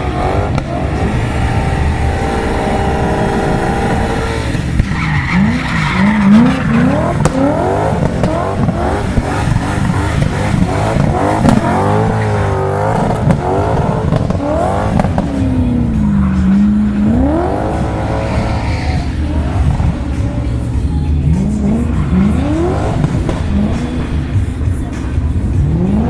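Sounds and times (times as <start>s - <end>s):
tyres squealing: 0.0s - 25.5s
car engine revving: 0.0s - 26.0s.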